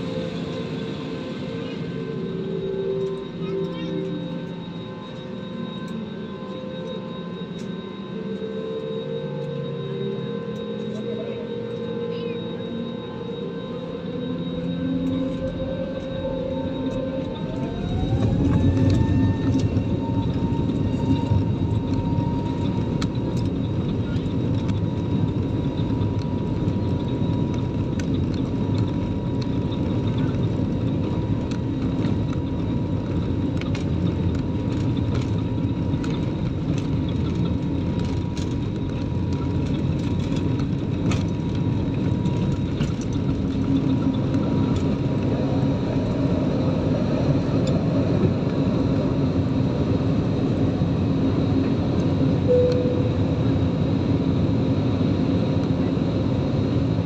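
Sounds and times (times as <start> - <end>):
high engine whine: 0.0 - 57.0
jet engines rumbling: 0.0 - 57.0.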